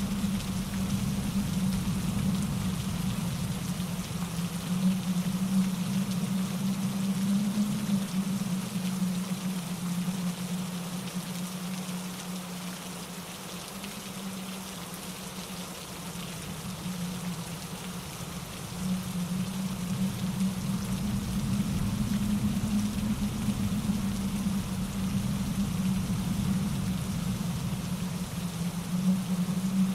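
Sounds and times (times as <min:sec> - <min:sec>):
steady rain falling: 0:00.0 - 0:29.9
stream running over rocks: 0:00.0 - 0:29.9
wind in trees: 0:00.0 - 0:29.9.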